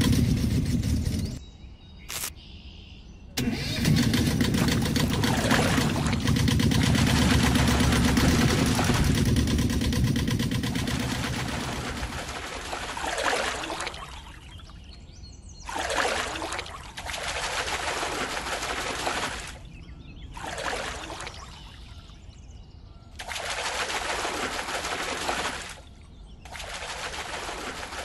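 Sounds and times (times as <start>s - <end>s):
fish splashing in shallow water: 3.6s - 14.9s, 15.6s - 22.2s, 23.1s - 28.0s.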